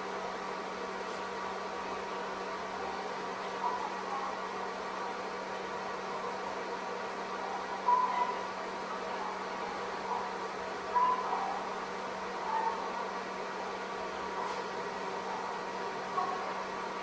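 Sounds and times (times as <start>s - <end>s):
fan hum and hiss: 0.0s - 17.0s.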